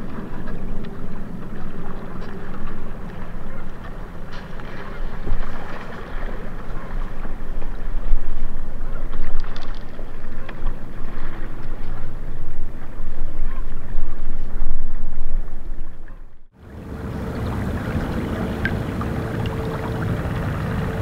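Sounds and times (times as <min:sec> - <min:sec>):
river water lapping on rocks: 0:00.0 - 0:21.0
wind buffeting microphone: 0:00.0 - 0:21.0.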